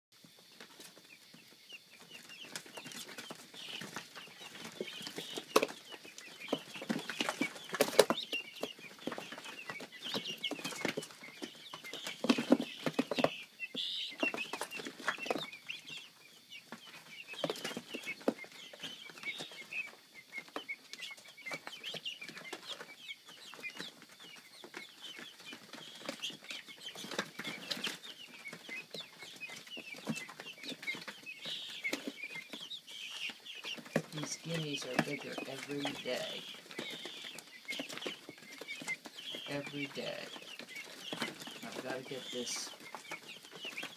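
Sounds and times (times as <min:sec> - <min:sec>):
chicks chirping: 0:00.2 - 0:43.9.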